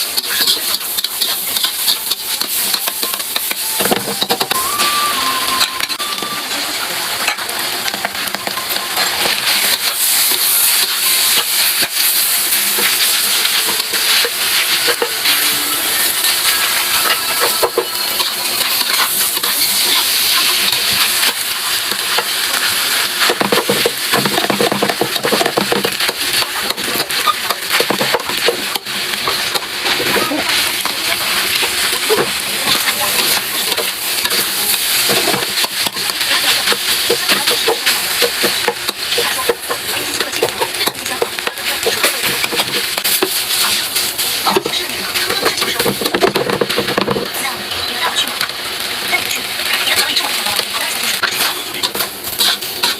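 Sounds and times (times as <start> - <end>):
rice sizzling in a pan: 0.0 - 52.9.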